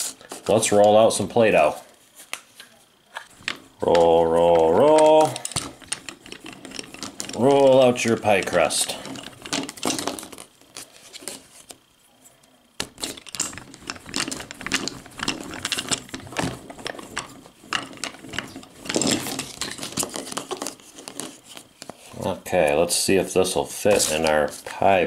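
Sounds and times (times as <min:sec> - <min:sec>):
rolling pin rolling dough: 0:03.2 - 0:11.8, 0:12.8 - 0:25.0.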